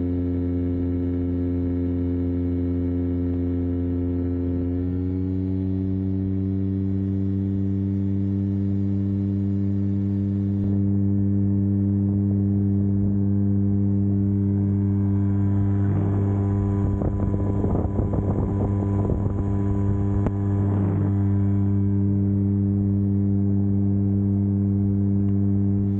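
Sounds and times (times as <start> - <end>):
engine running steadily: 0.0 - 25.9.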